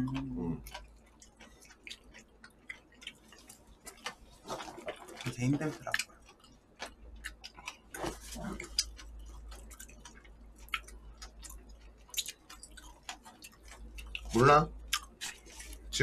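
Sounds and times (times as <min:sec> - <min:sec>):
chewing with mouth clicks: 0:00.0 - 0:16.0.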